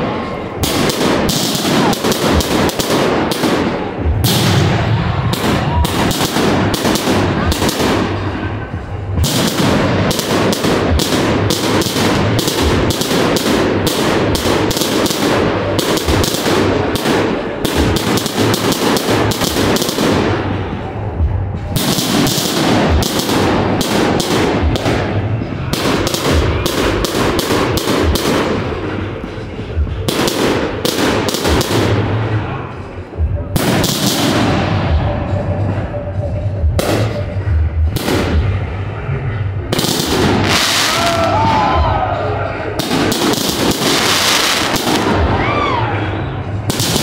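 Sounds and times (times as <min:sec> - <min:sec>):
fireworks bangs: 0:00.0 - 0:38.8, 0:39.7 - 0:45.7, 0:46.4 - 0:47.0.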